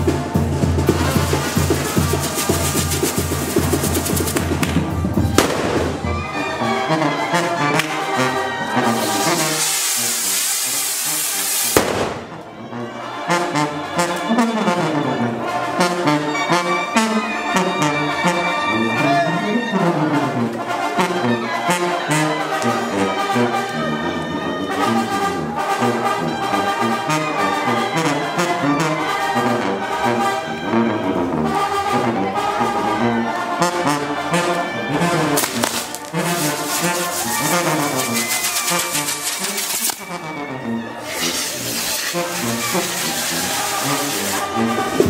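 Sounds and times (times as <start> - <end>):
brass band playing: 0.0 - 45.0.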